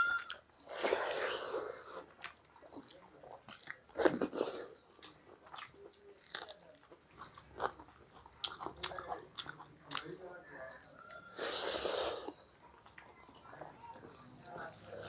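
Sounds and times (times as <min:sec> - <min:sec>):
people chewing and crunching: 0:00.0 - 0:15.0.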